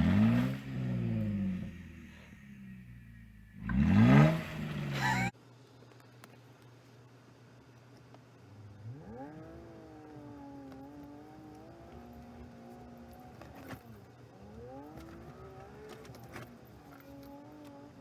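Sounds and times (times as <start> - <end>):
vehicle engine accelerating: 0.0 - 5.3, 8.8 - 18.0.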